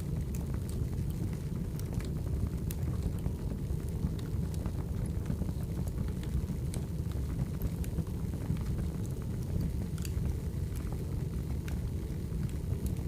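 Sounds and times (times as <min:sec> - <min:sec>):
firewood crackling and popping: 0:00.0 - 0:13.0
low rumble of flames: 0:00.0 - 0:13.0.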